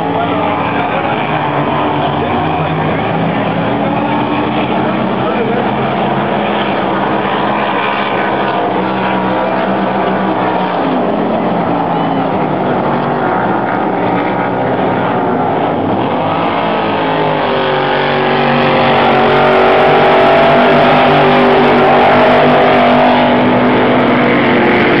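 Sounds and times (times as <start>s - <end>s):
racing powerboat engines running hard: 0.0s - 25.0s.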